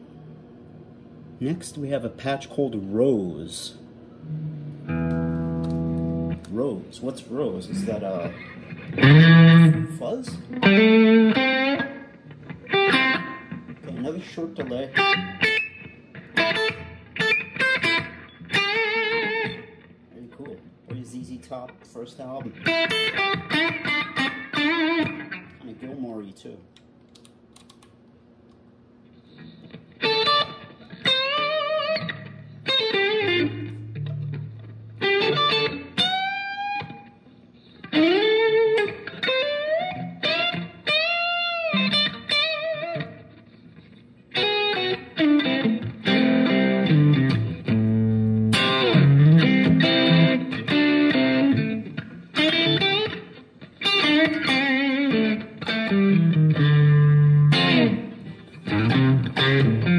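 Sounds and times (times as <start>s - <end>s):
electric guitar playing: 4.1s - 25.6s, 29.1s - 59.9s.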